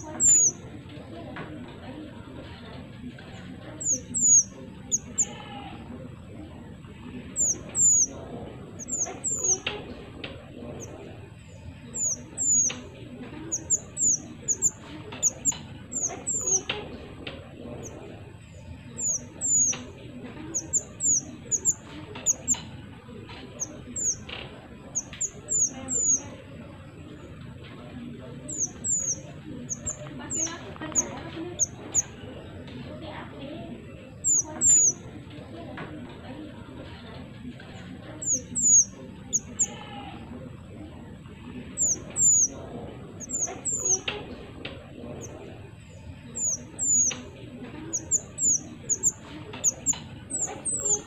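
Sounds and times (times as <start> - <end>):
songbird chirping: 0.0 - 51.0.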